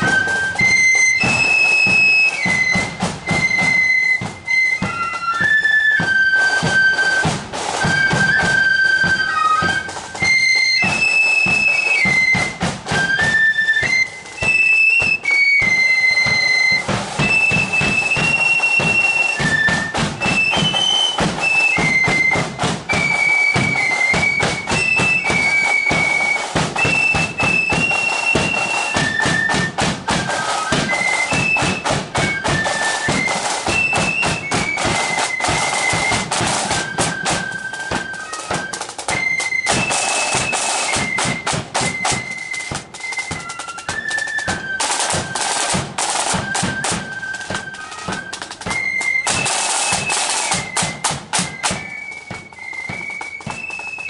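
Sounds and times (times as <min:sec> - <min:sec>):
drum rolls: 0:00.0 - 0:54.0
flutes playing melody: 0:00.0 - 0:54.0
side drum beats: 0:00.0 - 0:54.0.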